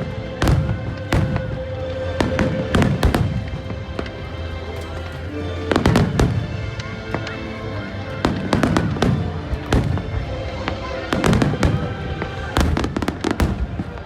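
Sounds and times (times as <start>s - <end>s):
fireworks bangs: 0.0s - 7.4s, 8.2s - 14.0s
music playing: 0.0s - 14.0s.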